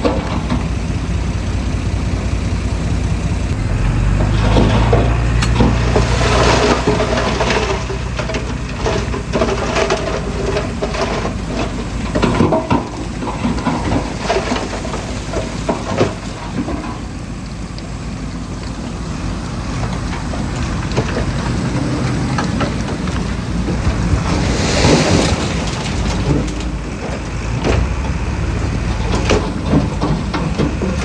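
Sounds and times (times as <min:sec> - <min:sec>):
metal clanks and rattles: 0:00.0 - 0:17.7, 0:19.7 - 0:31.0
heavy machinery diesel engine: 0:00.0 - 0:31.0.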